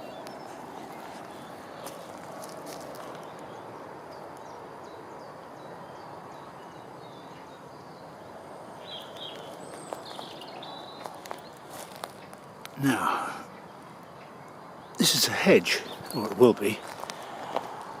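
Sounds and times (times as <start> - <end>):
small birds chirping: 0.0 - 18.0
steady background hiss: 0.0 - 18.0.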